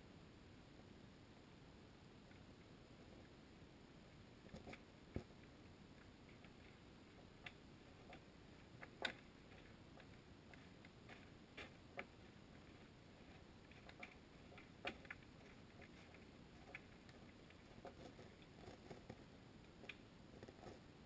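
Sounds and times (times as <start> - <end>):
faint irregular clicks: 1.4 - 3.4, 4.0 - 21.0.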